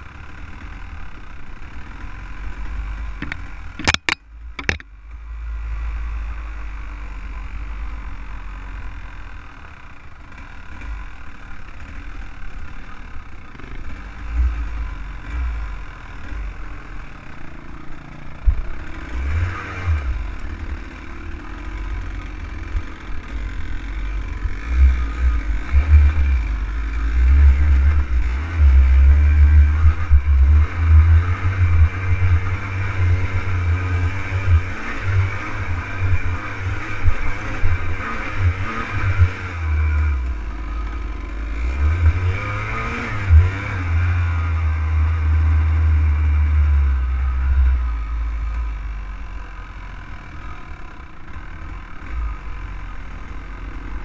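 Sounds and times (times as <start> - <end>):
low rumble over rocky trail: 0.0 - 54.0
off-road vehicle engine running: 0.0 - 54.0.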